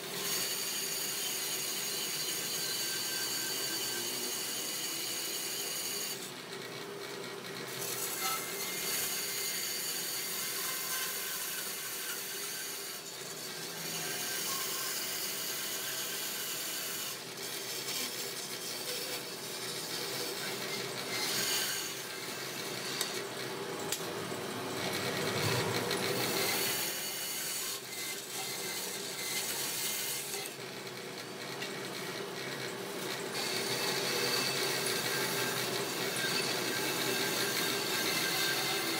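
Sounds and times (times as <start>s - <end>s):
bandsaw cutting wood: 0.0s - 6.3s, 7.6s - 24.0s, 24.8s - 31.3s, 33.0s - 38.9s.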